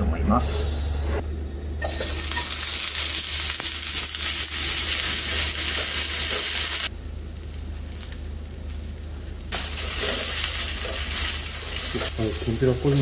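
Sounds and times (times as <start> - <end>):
vegetables sizzling in frying pan: 1.8 - 13.0.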